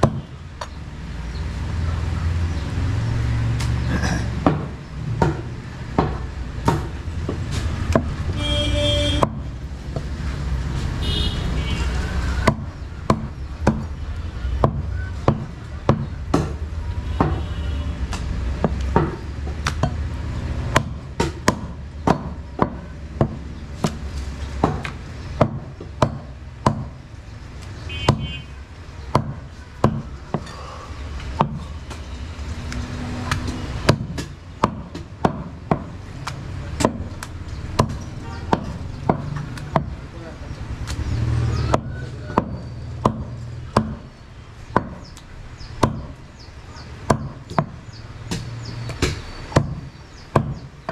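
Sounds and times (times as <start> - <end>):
cleaver chopping meat and bone: 0.0 - 0.8, 4.4 - 8.3, 9.1 - 10.1, 12.2 - 14.0, 14.6 - 27.0, 27.6 - 32.1, 32.7 - 40.0, 40.7 - 50.9.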